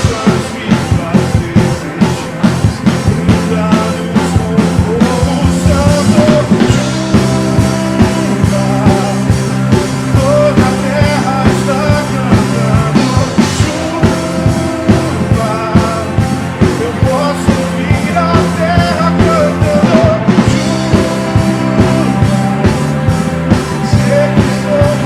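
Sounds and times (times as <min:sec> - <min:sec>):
drums on steady beat: 0:00.0 - 0:25.0
live rock band playing: 0:00.0 - 0:25.0
person singing: 0:00.0 - 0:25.0.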